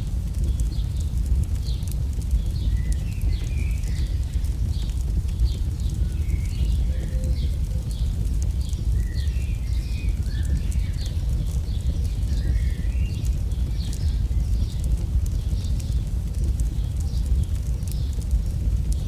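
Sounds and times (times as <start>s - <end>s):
campfire burning rumble: 0.0s - 19.0s
fire popping and snapping: 0.0s - 19.0s.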